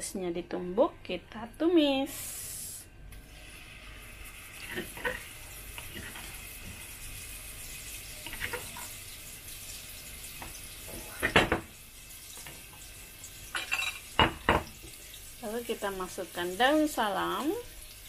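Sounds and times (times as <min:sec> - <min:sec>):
paste sizzling in hot oil: 0:02.1 - 0:18.0.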